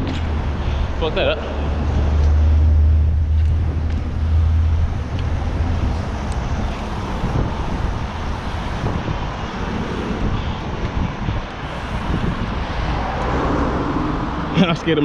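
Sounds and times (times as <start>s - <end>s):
car traffic: 0.0s - 15.0s
road noise: 0.0s - 15.0s
wind rush over microphone: 0.0s - 15.0s.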